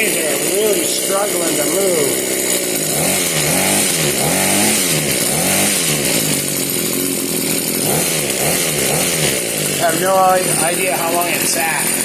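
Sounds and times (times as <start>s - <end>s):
hedge trimmer engine revving: 0.0s - 12.0s.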